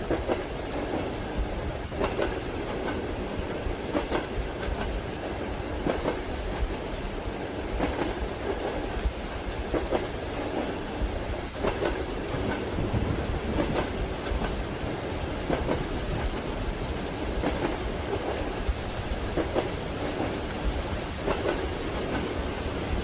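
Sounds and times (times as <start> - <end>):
train wheels clacking over rail joints: 0.0 - 7.0, 7.7 - 23.0
low rumble of train carriage: 0.0 - 23.0
rain hissing: 0.0 - 23.0.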